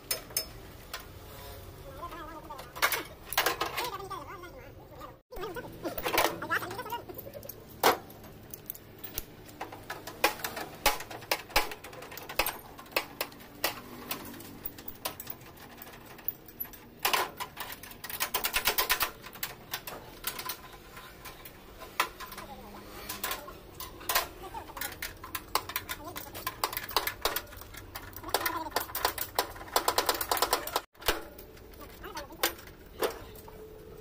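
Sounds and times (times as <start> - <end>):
hand tools clicking and knocking: 0.0 - 1.2, 2.0 - 4.2, 5.4 - 34.0.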